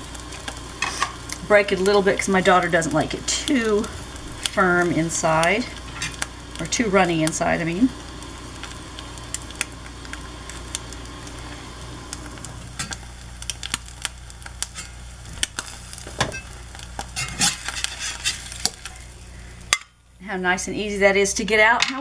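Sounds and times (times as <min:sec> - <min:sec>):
egg sizzling in butter: 0:00.0 - 0:20.3.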